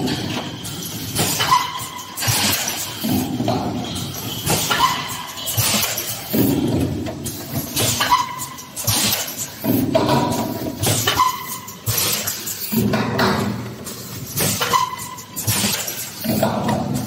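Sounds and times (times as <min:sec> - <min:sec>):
pneumatic blasts and air hisses: 0:00.4 - 0:17.0.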